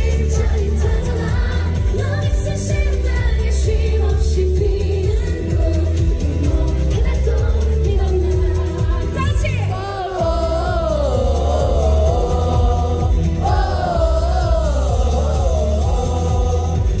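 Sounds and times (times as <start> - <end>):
heavy bass line: 0.0 - 17.0
woman singing: 0.0 - 17.0.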